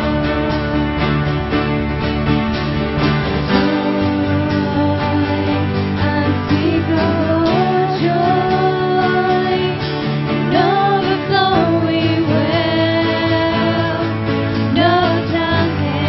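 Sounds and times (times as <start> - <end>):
person singing: 0.0 - 1.6, 3.5 - 16.0
strummed acoustic guitar: 0.0 - 16.0
sustained accompaniment: 0.0 - 16.0.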